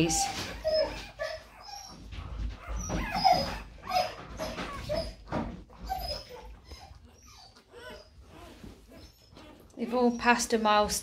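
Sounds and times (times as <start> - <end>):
puppies whimpering and squeaking: 0.0 - 11.0.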